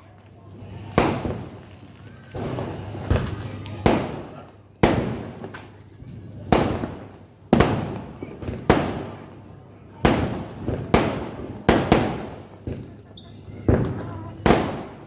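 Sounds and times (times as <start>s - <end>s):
crackling echo: 0.0s - 15.0s
firecrackers banging: 0.0s - 15.0s.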